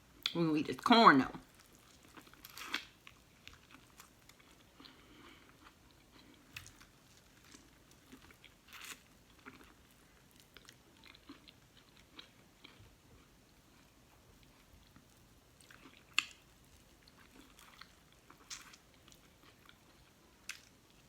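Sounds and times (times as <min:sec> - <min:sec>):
chewing corn on the cob: 0:01.4 - 0:21.0.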